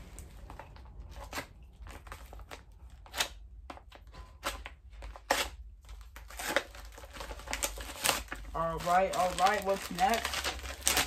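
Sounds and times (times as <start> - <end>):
knife cutting paper envelope: 1.0 - 11.0.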